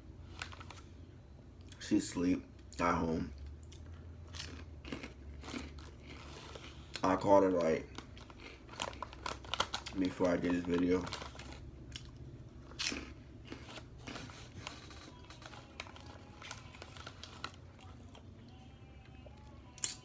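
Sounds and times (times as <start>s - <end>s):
chewing and crunching food: 2.7s - 20.0s.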